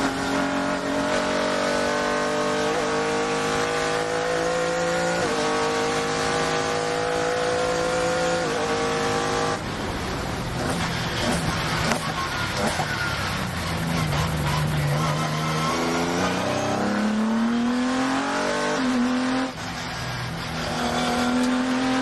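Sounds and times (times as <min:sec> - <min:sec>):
race car engine accelerating: 0:00.0 - 0:09.6, 0:10.6 - 0:22.0.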